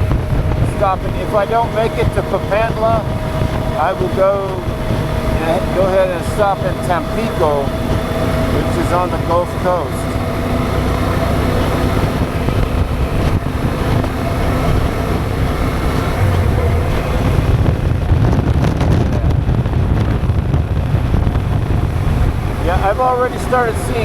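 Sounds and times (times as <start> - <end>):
motorcycle engine drone: 0.0 - 24.0
wind buffeting microphone: 0.0 - 24.0.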